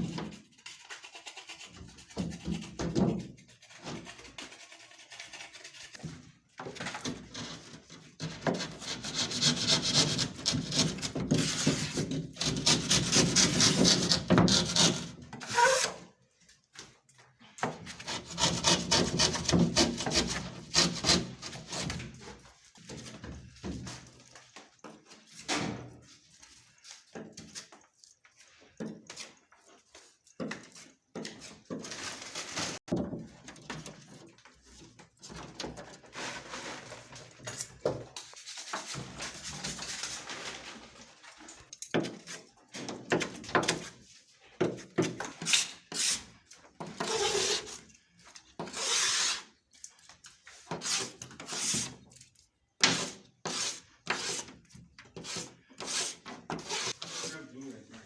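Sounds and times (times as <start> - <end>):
scraping and rubbing on plaster: 0.0 - 16.4, 17.4 - 32.9, 33.6 - 58.0.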